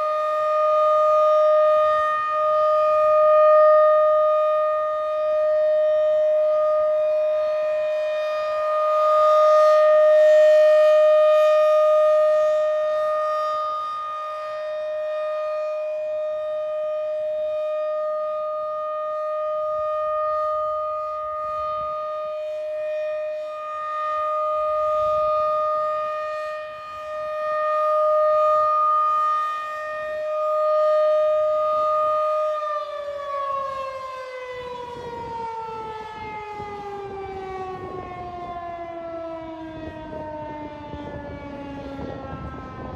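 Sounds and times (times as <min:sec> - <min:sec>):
rotating warning siren: 0:00.0 - 0:42.9.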